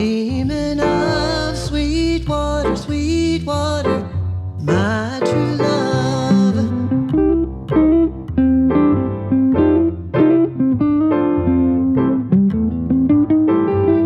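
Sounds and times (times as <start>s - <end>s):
bass line: 0.0s - 14.0s
guitar picking melody: 0.0s - 14.0s.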